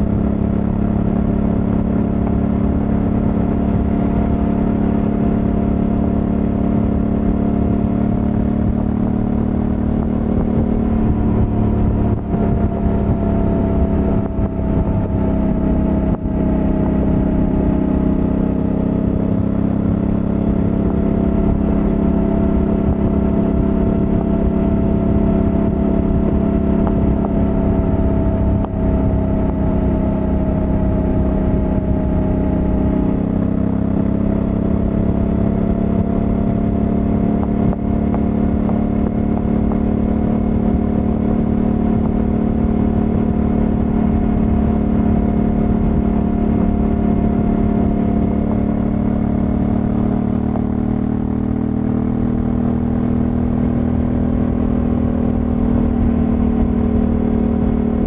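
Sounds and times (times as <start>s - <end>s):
low rumble: 0.0s - 58.0s
motorcycle engine at highway speed: 0.0s - 58.0s.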